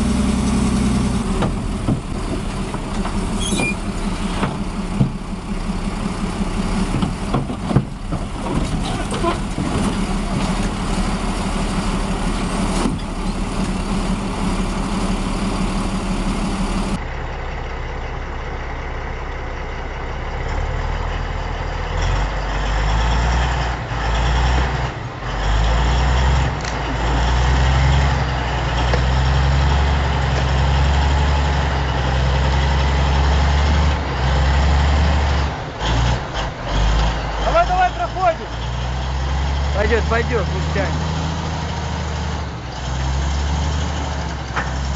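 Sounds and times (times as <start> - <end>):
heavy diesel machinery engines: 0.0 - 44.9
machine deep rumble: 0.0 - 44.9.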